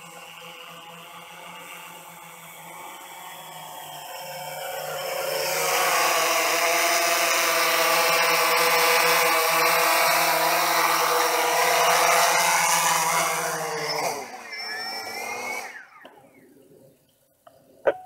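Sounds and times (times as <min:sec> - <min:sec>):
drone motors buzzing: 0:00.0 - 0:17.1.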